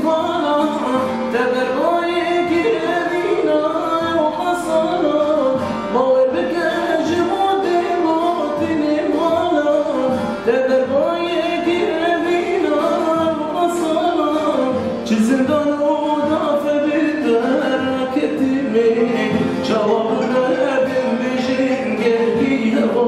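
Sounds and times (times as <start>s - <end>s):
long-necked lute: 0.0s - 23.0s.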